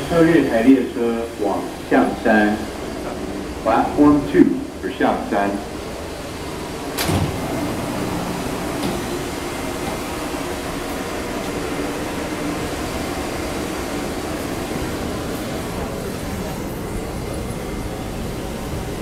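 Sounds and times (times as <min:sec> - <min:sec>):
train humming at platform: 0:00.0 - 0:19.0.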